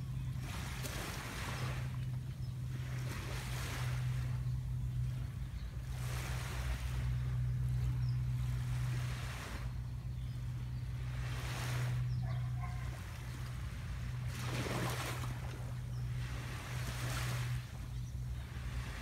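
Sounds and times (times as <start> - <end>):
low hum: 0.0 - 19.0
small waves washing onto beach: 0.0 - 19.0.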